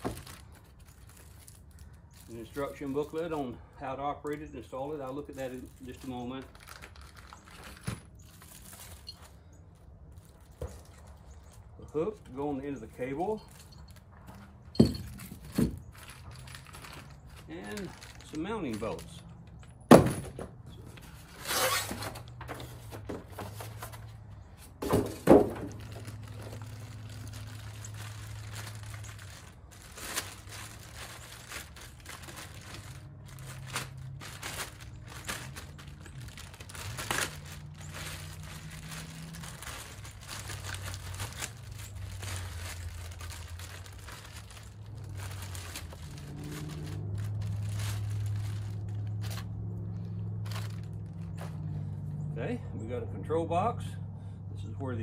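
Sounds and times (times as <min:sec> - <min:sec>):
plastic packaging crinkling: 0:00.0 - 0:03.4, 0:04.7 - 0:11.7, 0:12.6 - 0:19.6, 0:24.9 - 0:51.7.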